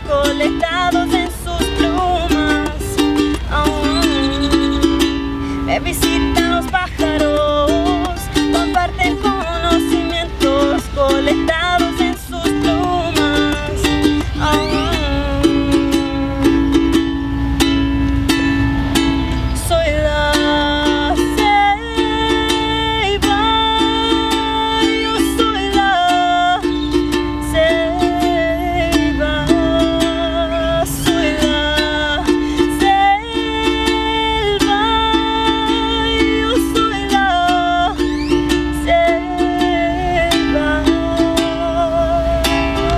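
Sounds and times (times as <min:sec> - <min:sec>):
melody of long held notes: 0:00.0 - 0:42.9
ukulele strumming chords: 0:00.0 - 0:42.9.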